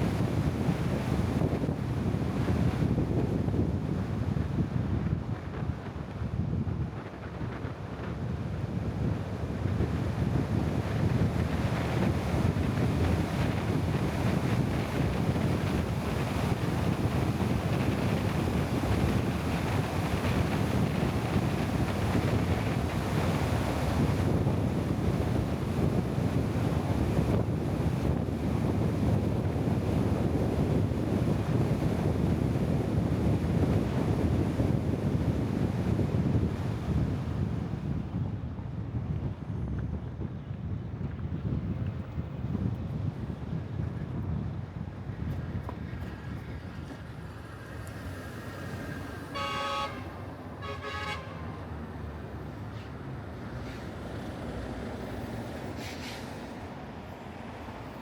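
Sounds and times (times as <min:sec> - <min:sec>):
wind buffeting microphone: 0:00.0 - 0:55.8.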